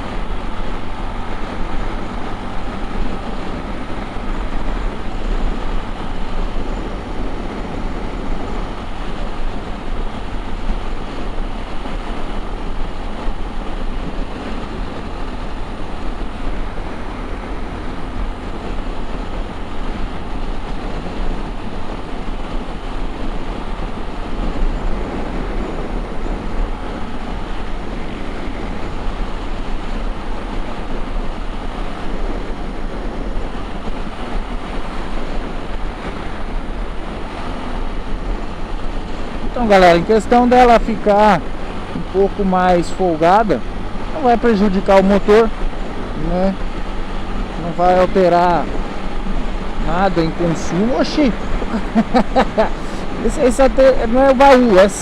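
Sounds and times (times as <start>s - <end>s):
road noise: 0.0s - 55.0s
wind noise: 0.0s - 55.0s.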